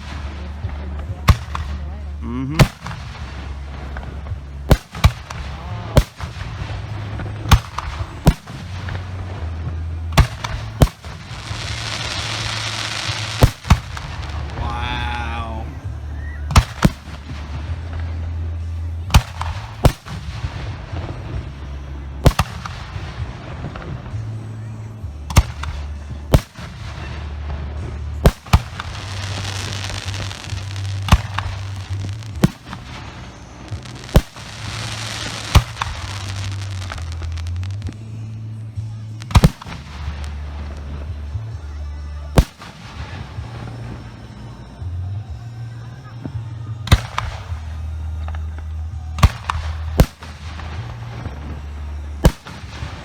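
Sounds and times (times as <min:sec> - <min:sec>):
firework shells booming: 0:00.0 - 0:15.9, 0:16.5 - 0:41.6, 0:42.3 - 0:44.8, 0:46.9 - 0:47.8, 0:49.2 - 0:53.0
firework crackling: 0:00.0 - 0:53.0.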